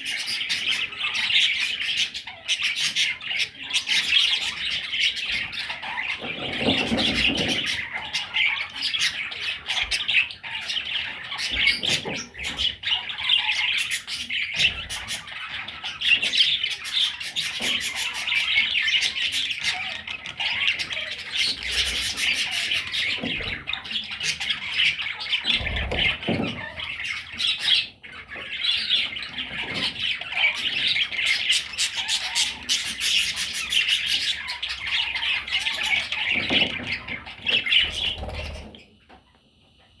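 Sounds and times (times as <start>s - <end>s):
budgerigars chattering and squawking: 0.0s - 39.4s.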